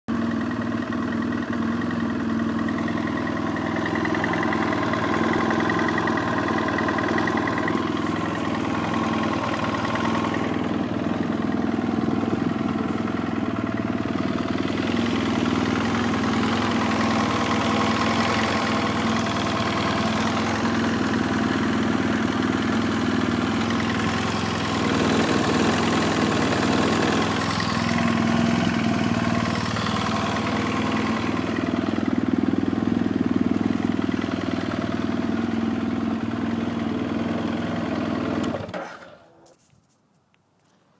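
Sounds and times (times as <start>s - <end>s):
motorcycle engine idling with knocking: 0.1s - 39.1s.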